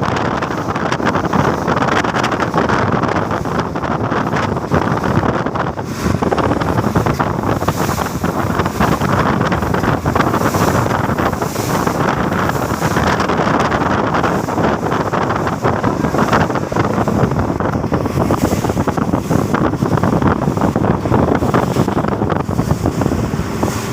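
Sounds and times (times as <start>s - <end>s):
strong wind buffeting microphone: 0.0s - 23.9s.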